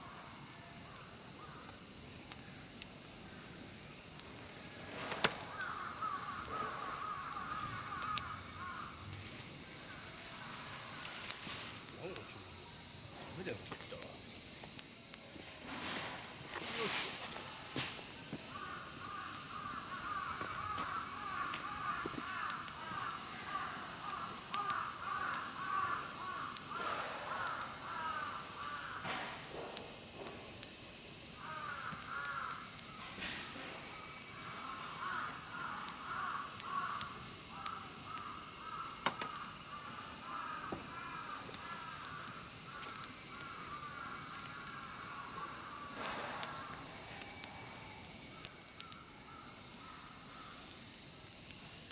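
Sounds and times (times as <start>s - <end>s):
insects chorus: 0.0s - 51.9s
campfire crackles: 0.3s - 51.9s.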